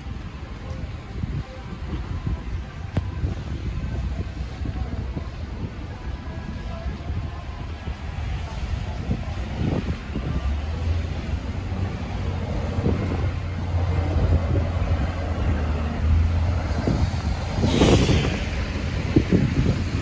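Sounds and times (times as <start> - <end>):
street traffic: 0.0 - 20.0
wind rumbling on microphone: 0.0 - 20.0.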